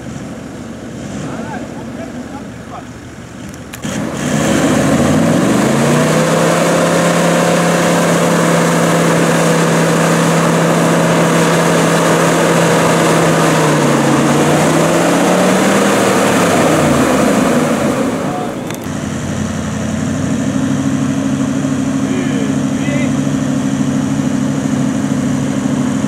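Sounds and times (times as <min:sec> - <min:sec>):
engine revving at high revs: 0:00.0 - 0:02.8, 0:03.7 - 0:26.0.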